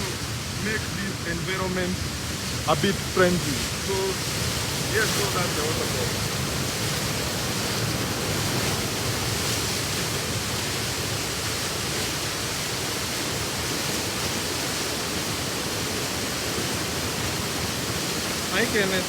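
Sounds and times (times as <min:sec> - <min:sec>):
waterfall rushing and splashing: 0:00.0 - 0:19.0.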